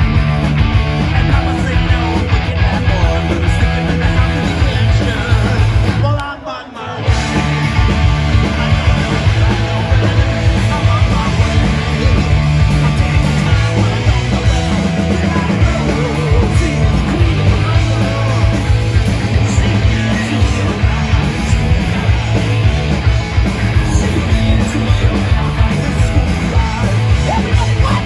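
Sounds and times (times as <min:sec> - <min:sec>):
punk rock music: 0:00.0 - 0:28.0.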